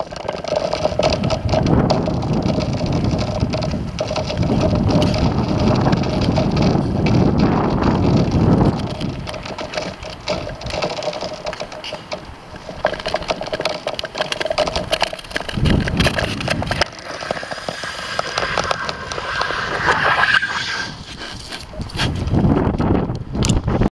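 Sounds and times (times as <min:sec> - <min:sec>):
lake ice crackling and ticking: 0:00.0 - 0:22.2.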